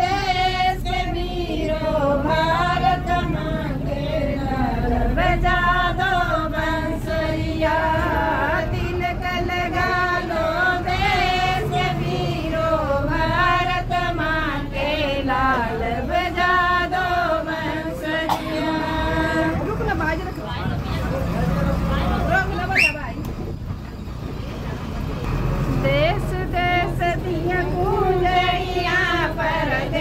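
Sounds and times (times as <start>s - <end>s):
woman singing: 0.0s - 19.9s, 25.8s - 30.0s.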